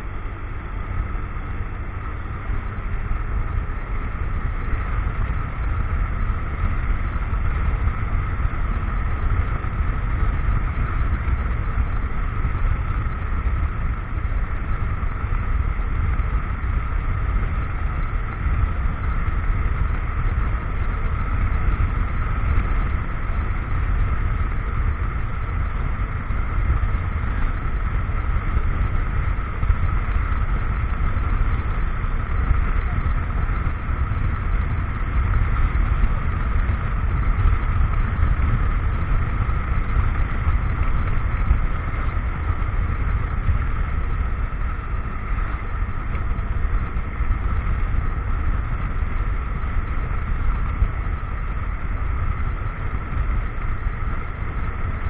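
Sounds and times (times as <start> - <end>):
motorcycle engine running: 0.0 - 55.0
road noise: 0.0 - 55.0
wind rumble on microphone: 0.0 - 55.0.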